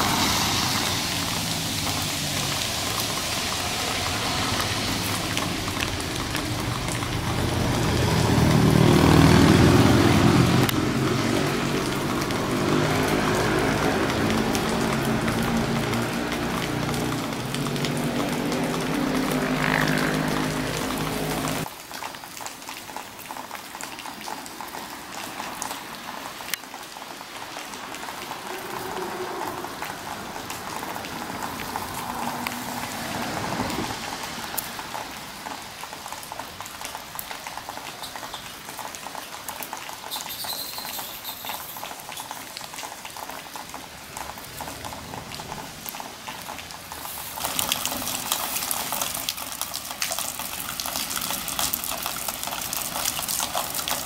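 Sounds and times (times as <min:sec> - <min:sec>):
light rain on grass and leaves: 0:00.0 - 0:54.0
water drips ticking: 0:00.8 - 0:54.0.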